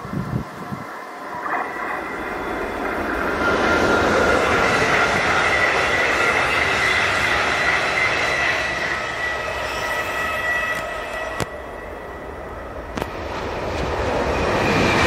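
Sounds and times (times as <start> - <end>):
train wheels rumbling: 0.0 - 15.0
steady high-pitched tones: 0.1 - 15.0.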